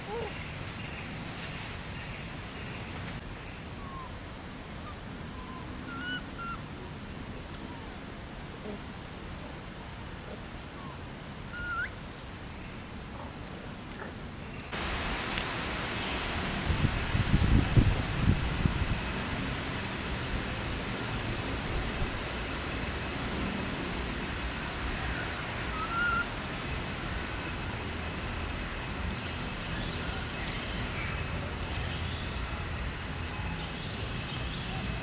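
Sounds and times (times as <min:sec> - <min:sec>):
wind rushing through rustling leaves: 0:00.0 - 0:35.0.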